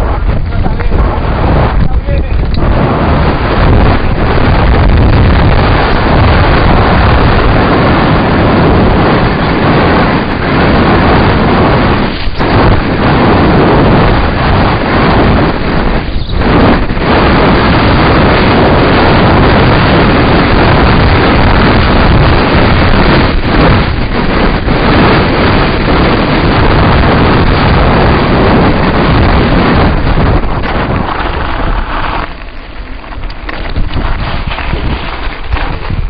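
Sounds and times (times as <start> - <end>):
bike tyres rattling over stones: 0.0 - 36.0
wind buffeting microphone: 0.0 - 36.0.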